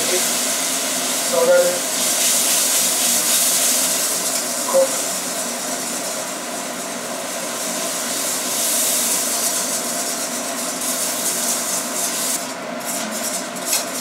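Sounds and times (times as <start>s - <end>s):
roux frying hiss: 0.0s - 14.0s.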